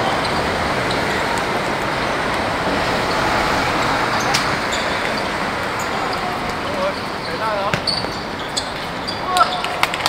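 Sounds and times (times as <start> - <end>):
road traffic roar: 0.0 - 10.0.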